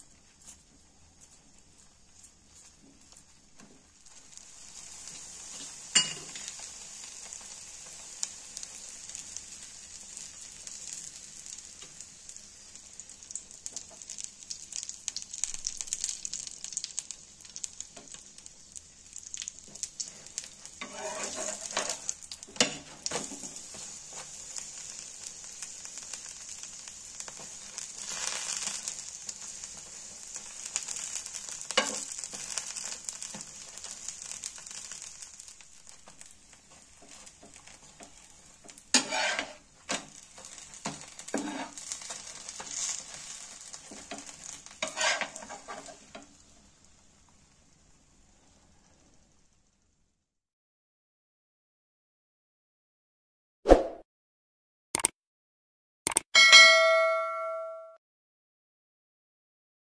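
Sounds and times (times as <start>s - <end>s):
flatbread sizzling in a pan: 0.0s - 50.4s.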